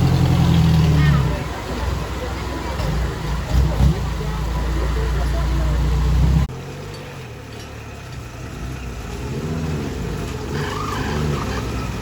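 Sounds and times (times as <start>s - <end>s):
engine running and revving: 0.0s - 1.9s, 2.8s - 12.0s.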